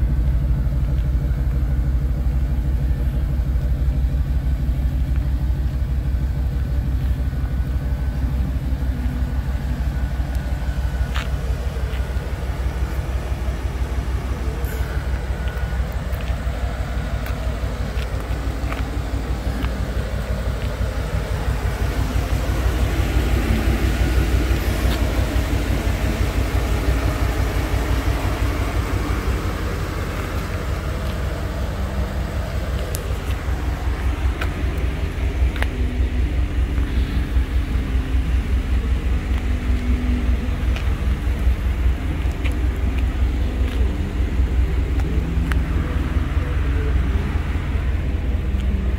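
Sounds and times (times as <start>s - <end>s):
engine idling with low rumble: 0.0s - 48.9s.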